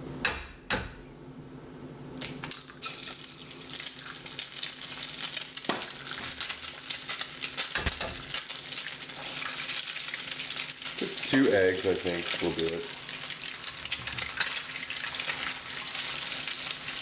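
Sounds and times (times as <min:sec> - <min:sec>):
eggs cracking on pan: 0:02.2 - 0:17.0
eggs sizzling in pan: 0:02.2 - 0:17.0.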